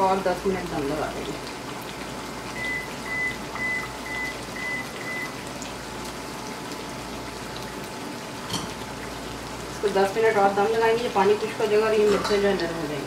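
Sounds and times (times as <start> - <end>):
curry bubbling in oil: 0.0 - 13.0.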